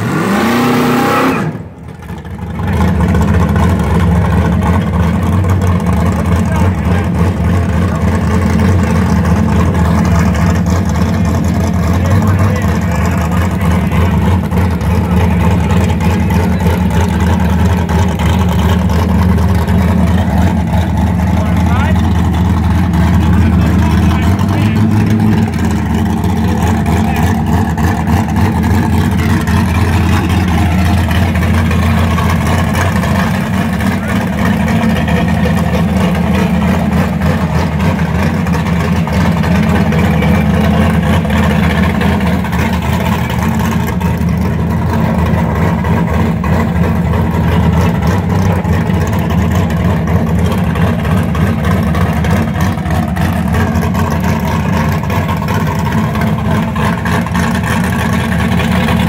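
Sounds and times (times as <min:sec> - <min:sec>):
car engine at high revs: 0:00.0 - 0:59.0
tires spinning on concrete: 0:00.0 - 0:59.0.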